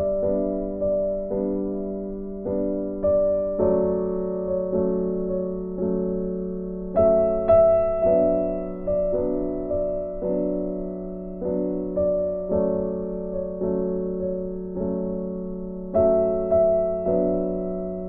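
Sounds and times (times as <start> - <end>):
slow gentle piano tune: 0.0 - 18.0.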